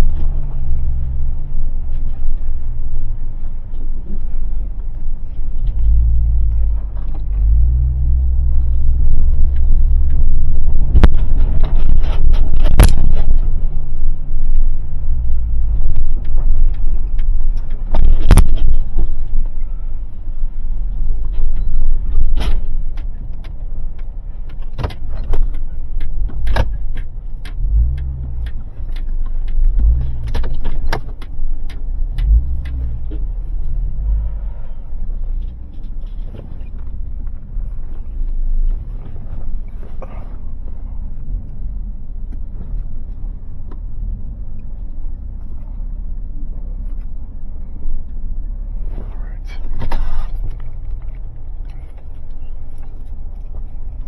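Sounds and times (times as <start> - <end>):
engine low rumble: 0.0 - 54.0.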